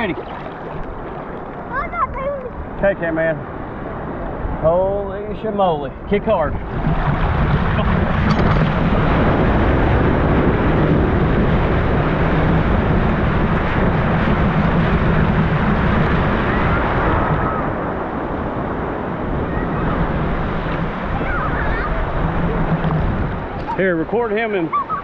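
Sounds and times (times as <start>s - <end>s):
wave whitewater rushing: 0.0s - 25.0s
wind buffeting microphone: 0.0s - 25.0s.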